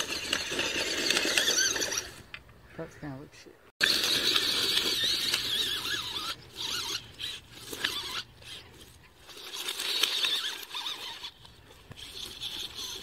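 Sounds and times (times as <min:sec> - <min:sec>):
toy truck motor whining: 0:00.0 - 0:02.4, 0:03.8 - 0:13.0.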